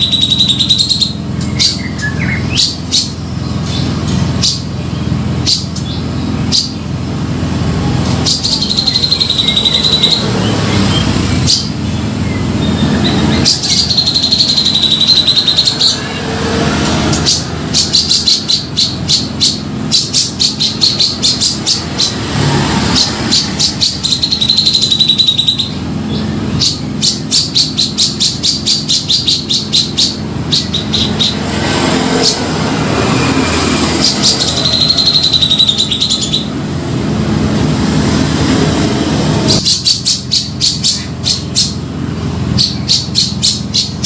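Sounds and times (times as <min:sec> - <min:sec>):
bird singing trilled phrases: 0:00.0 - 0:36.6, 0:39.5 - 0:44.0.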